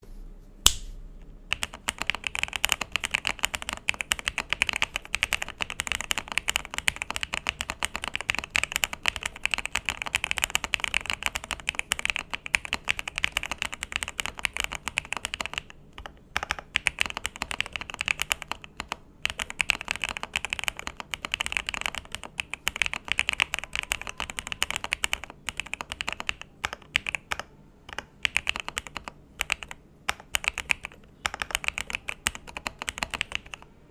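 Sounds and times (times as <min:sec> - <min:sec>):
fast typing on mechanical keyboard: 0:01.5 - 0:33.6.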